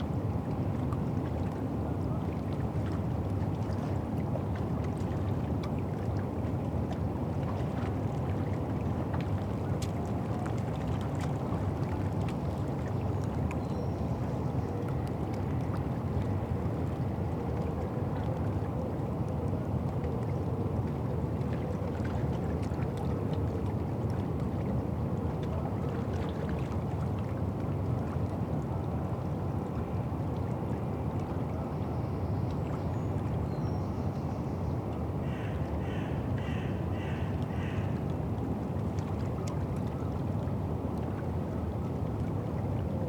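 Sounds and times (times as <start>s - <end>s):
low rumble of water: 0.0s - 43.0s
distant boat traffic: 7.2s - 43.0s.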